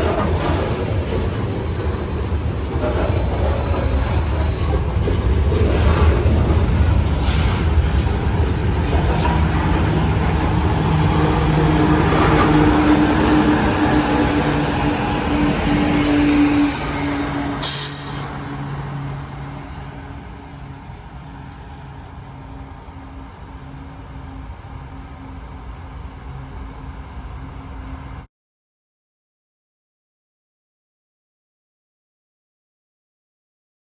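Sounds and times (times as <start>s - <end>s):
freight train clattering past: 0.0s - 28.2s
train wheel squeal: 0.0s - 28.3s.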